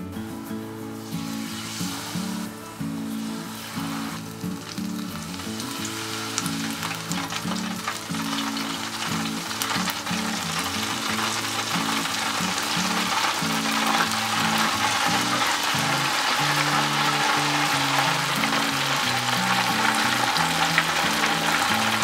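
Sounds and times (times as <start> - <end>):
background music: 0.0 - 22.0
battered food deep frying: 0.9 - 22.0.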